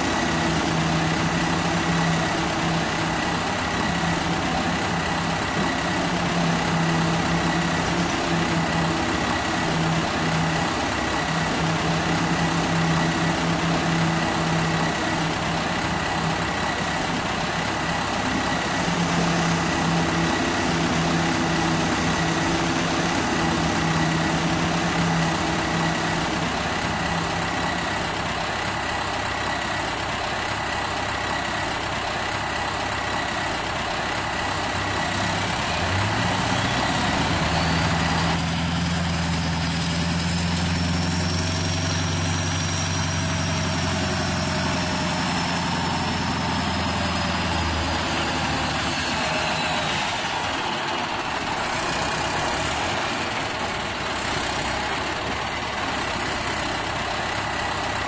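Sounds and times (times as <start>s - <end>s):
model truck engine: 0.0s - 58.0s.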